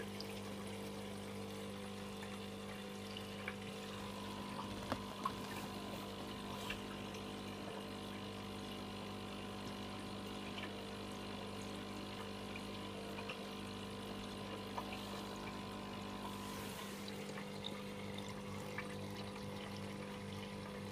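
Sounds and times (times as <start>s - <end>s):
aquarium pump humming: 0.0s - 20.9s
water moving in tank: 0.0s - 20.9s.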